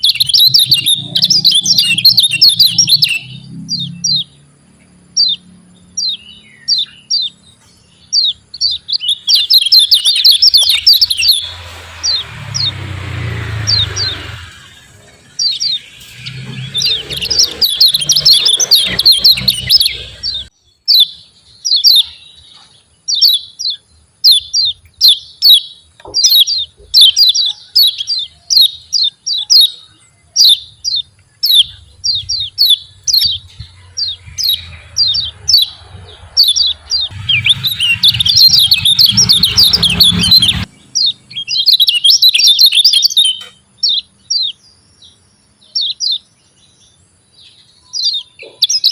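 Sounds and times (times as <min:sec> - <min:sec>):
bird chirping call: 0:00.0 - 0:48.9.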